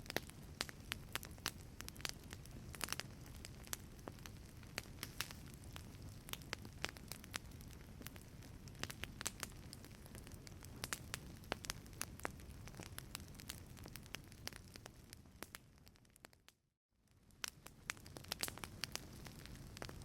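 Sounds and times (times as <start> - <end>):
wood fire crackling: 0.0 - 16.5, 17.1 - 20.0.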